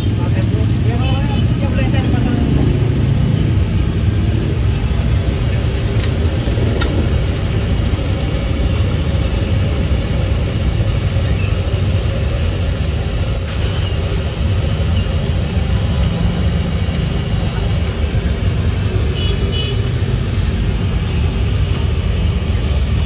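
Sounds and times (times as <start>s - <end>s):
gas burner rumble: 0.0s - 23.0s.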